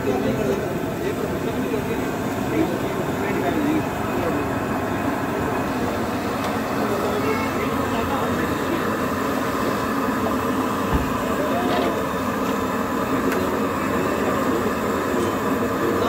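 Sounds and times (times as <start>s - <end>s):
food frying in hot oil: 0.1s - 16.0s.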